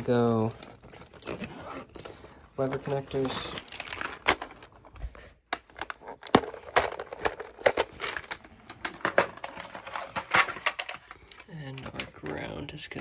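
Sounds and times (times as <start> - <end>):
small connectors clicking and rattling: 0.0 - 4.9, 5.5 - 12.8
plastic organizer being handled: 0.1 - 12.6.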